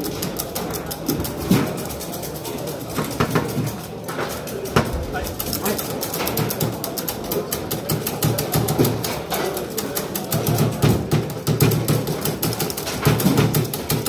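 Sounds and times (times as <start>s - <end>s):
foosball ball clacking: 0.0s - 14.0s.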